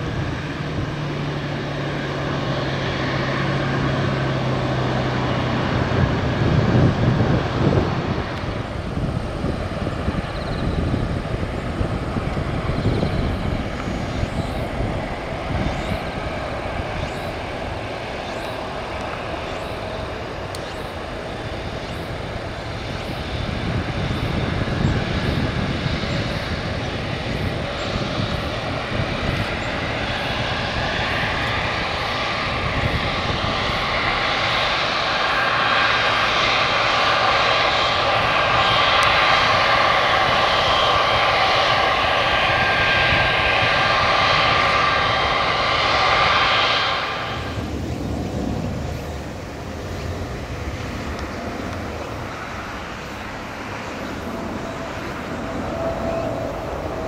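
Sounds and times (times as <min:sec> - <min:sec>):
jet engines running: 0:00.0 - 0:57.0
rising jet engine whine: 0:00.0 - 0:57.0.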